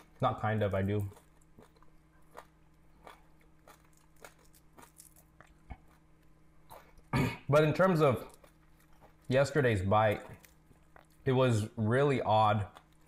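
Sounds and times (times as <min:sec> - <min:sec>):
crunching fried fish: 0:00.0 - 0:13.0.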